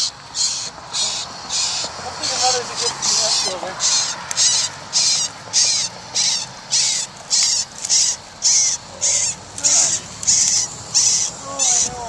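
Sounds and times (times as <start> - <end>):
bird nestlings rasping begging calls: 0.0 - 12.0.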